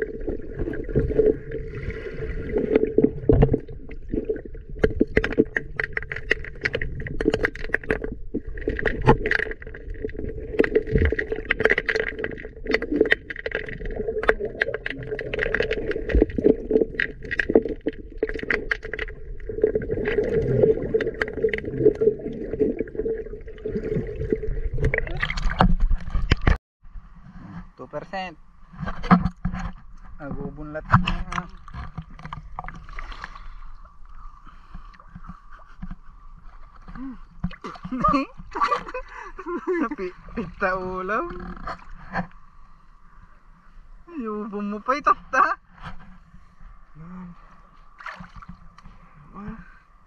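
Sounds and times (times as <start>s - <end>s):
underwater water noise: 0.0s - 27.7s, 28.4s - 50.0s.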